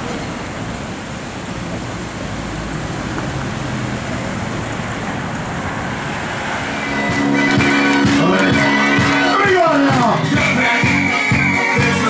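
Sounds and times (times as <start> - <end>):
vehicle engine and road noise: 0.0 - 11.4.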